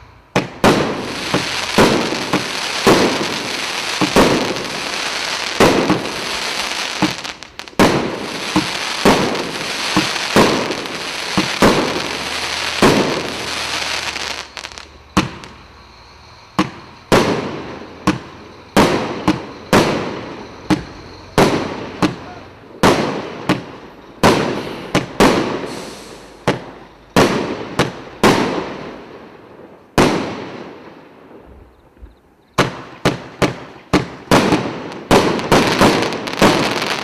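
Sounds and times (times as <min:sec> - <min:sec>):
firework crackling hiss: 0:00.0 - 0:31.5, 0:32.6 - 0:37.0
firework bangs: 0:00.3 - 0:37.0.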